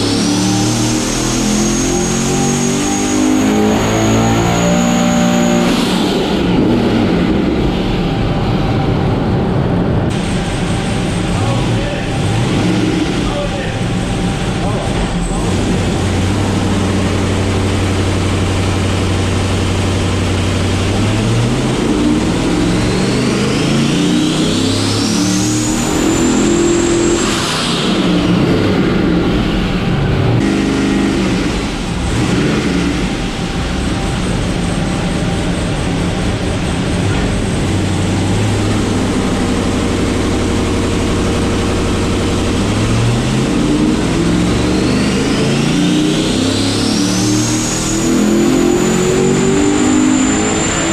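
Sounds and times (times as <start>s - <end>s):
race car engine revving: 0.0s - 50.9s
turbo whine: 0.0s - 50.9s.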